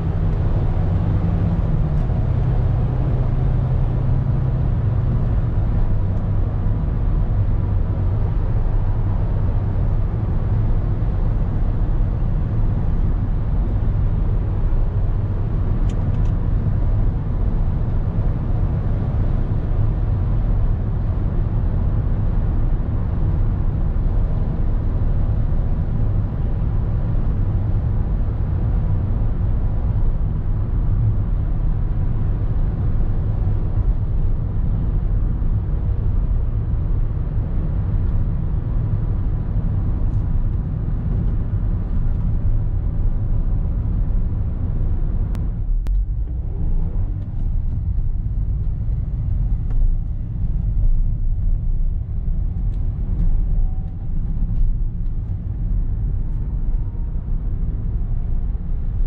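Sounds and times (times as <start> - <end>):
van engine and road noise: 0.0 - 59.0.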